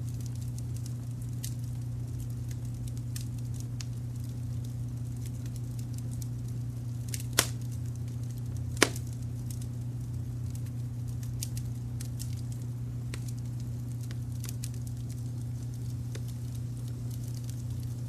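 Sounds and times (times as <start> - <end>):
fire popping loudly: 0.0 - 18.0
low rumble of brown noise: 0.0 - 18.0
wood fire crackling: 0.0 - 18.0.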